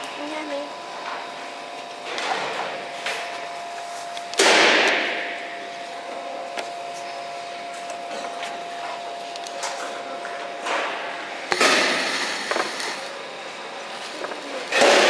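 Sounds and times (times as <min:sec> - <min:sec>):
laser cutter whine: 0:00.0 - 0:15.0.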